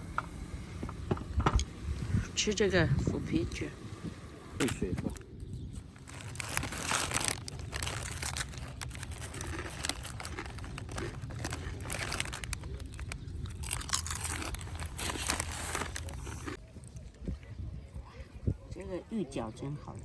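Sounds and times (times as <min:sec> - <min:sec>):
food crunching: 0:00.0 - 0:16.6
low steady rumble: 0:00.0 - 0:16.8.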